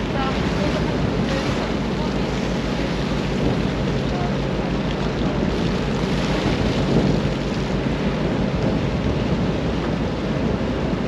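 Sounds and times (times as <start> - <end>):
ship low rumble: 0.0 - 11.0
wind buffeting microphone: 0.0 - 11.0.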